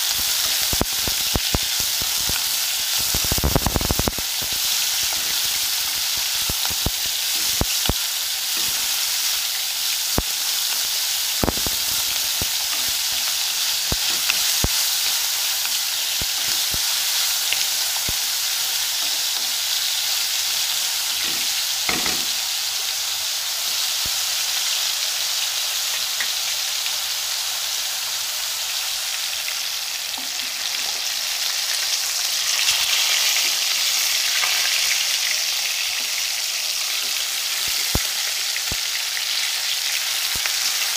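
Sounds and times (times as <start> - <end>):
fish frying in hot oil: 0.0 - 40.9
vegetables sizzling in a wok: 0.0 - 40.9.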